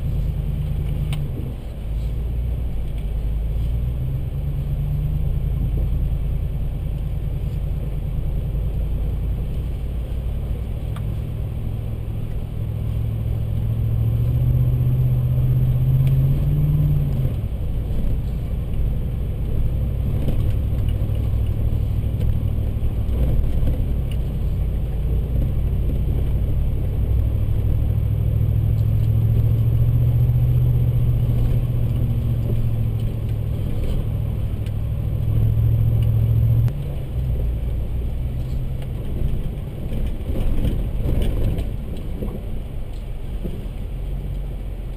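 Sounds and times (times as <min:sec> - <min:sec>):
pickup engine drone from inside cab: 0:00.0 - 0:44.9.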